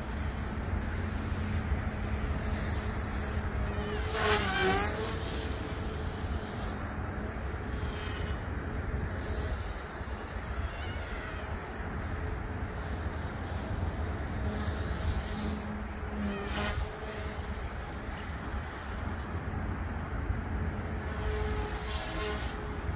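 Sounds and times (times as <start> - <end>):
rc helicopter whine: 0.0 - 22.9
wind rumble on microphone: 0.0 - 22.9.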